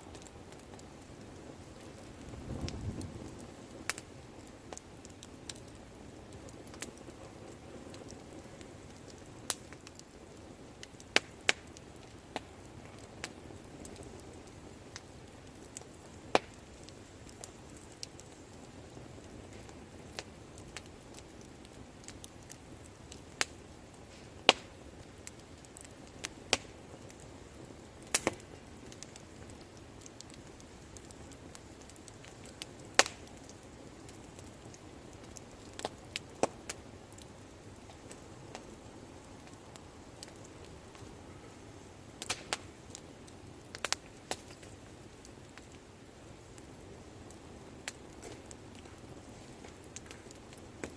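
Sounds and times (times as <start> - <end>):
campfire crackling: 0.0 - 50.9
fire hissing softly: 0.0 - 50.9.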